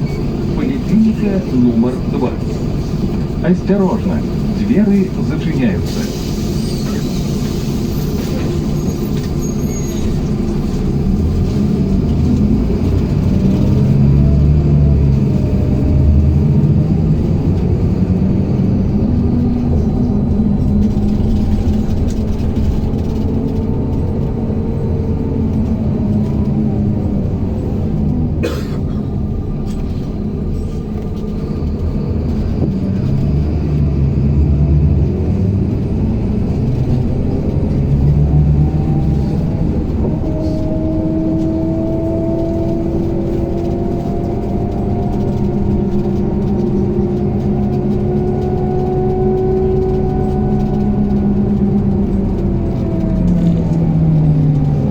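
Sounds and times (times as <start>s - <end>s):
bus engine running: 0.0s - 54.9s
road rumble: 0.0s - 54.9s.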